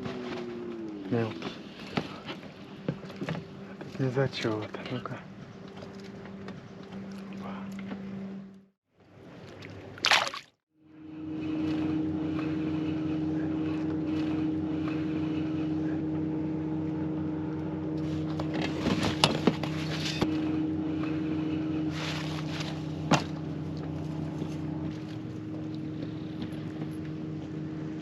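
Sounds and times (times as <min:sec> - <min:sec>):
boat motor running: 0:00.0 - 0:10.2, 0:10.8 - 0:28.0.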